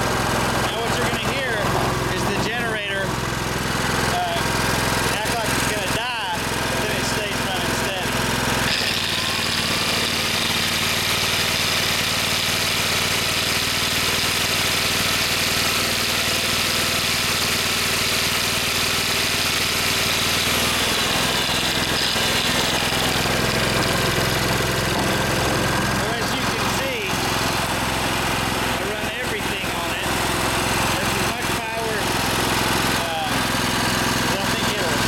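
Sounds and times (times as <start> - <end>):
angle grinder whine: 0.0 - 35.0
generator engine running: 0.0 - 35.0.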